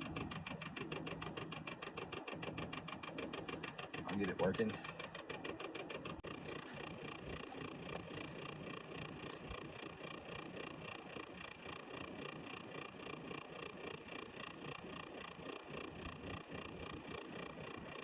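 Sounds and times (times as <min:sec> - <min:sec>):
diesel air heater pulsing: 0:00.0 - 0:18.0.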